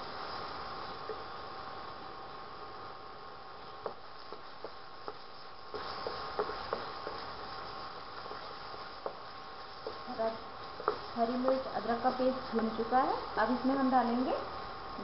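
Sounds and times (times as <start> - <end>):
masala sizzling in pan: 0.0 - 15.0
steady hum: 0.0 - 15.0.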